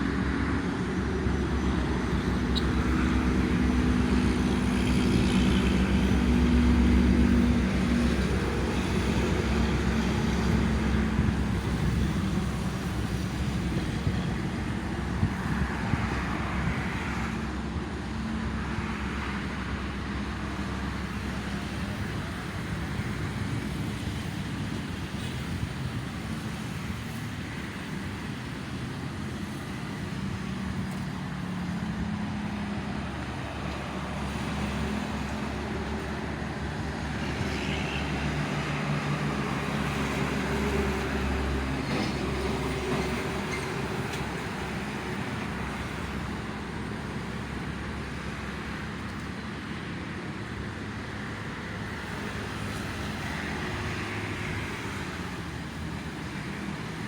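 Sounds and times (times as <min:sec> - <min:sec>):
heavy vehicle engine: 0:00.0 - 0:57.0
traffic noise: 0:00.0 - 0:57.0.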